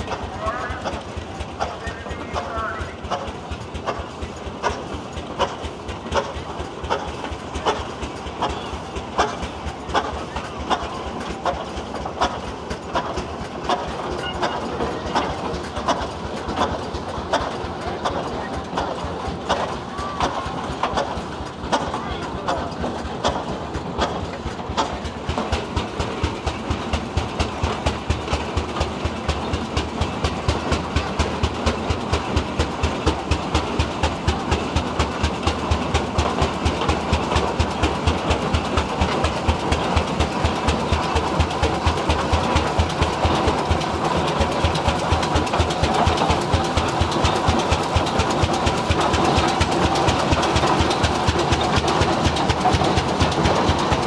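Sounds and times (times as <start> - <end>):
tractor engine running slowly: 0.0 - 54.0.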